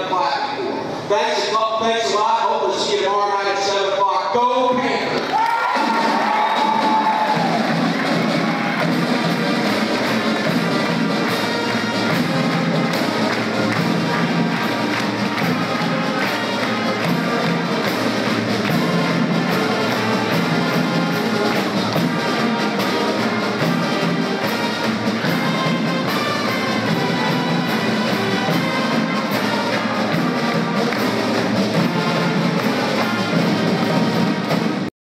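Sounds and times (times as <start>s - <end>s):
pep band playing brass music: 4.7s - 34.9s
drums beating: 5.2s - 34.9s.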